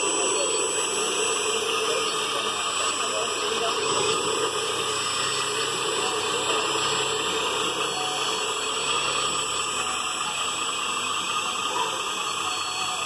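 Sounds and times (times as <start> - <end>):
hydraulic pump whirring hiss: 0.0 - 13.0.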